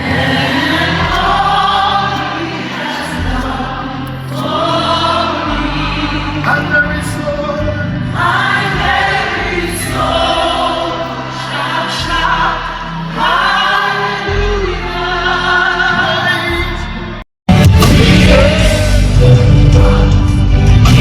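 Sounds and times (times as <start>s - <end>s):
choir singing gospel music: 0.0s - 21.0s.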